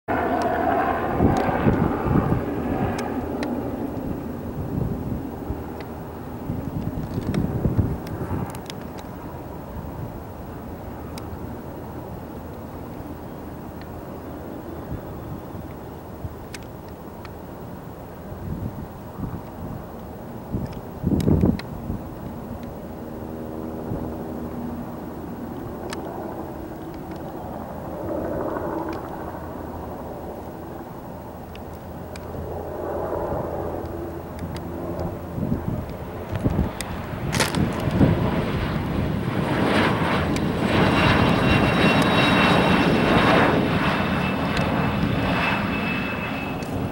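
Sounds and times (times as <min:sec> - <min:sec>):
wind on microphone: 0:00.1 - 0:10.4, 0:18.3 - 0:31.0, 0:32.1 - 0:46.9
jet engine whine: 0:00.1 - 0:46.9.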